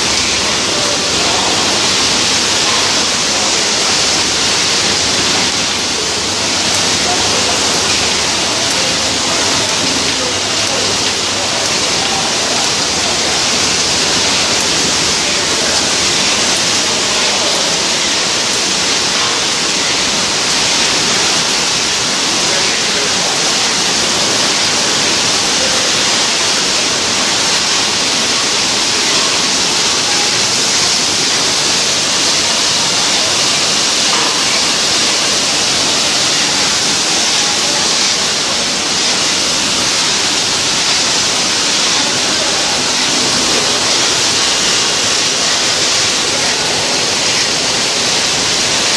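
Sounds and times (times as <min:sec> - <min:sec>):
machinery hissing: 0:00.0 - 0:48.9.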